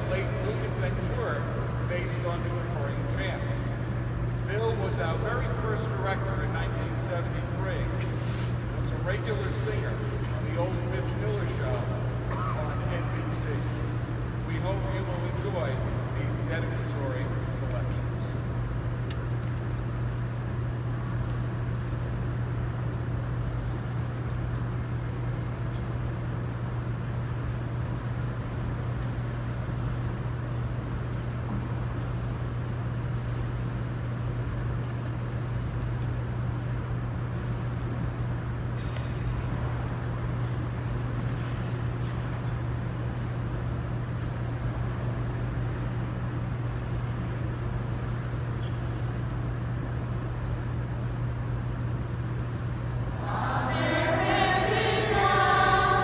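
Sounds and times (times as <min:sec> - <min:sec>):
rumbling hissy background: 0:00.0 - 0:56.0
steady low hum: 0:00.0 - 0:56.0.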